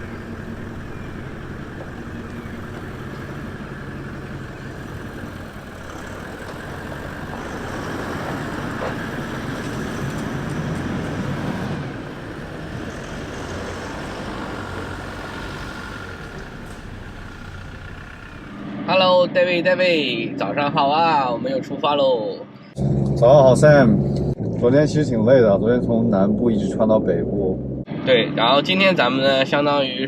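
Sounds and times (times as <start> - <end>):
engine hum: 0.0 - 19.6, 22.7 - 29.7.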